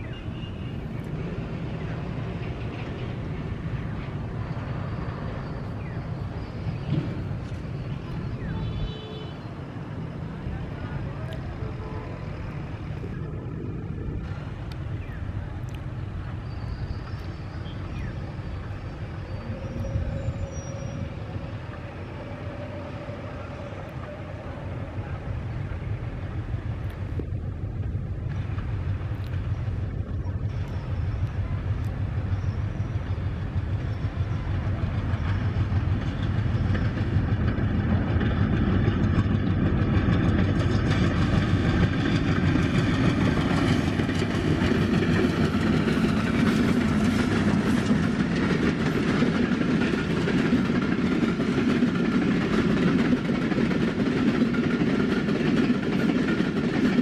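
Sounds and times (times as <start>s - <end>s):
diesel passenger train passing: 0.0s - 57.0s.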